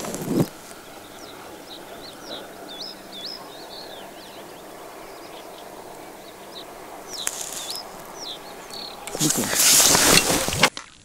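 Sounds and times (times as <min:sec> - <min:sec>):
songbirds chirping: 0:00.0 - 0:10.6
distant outdoor hum: 0:00.0 - 0:10.7.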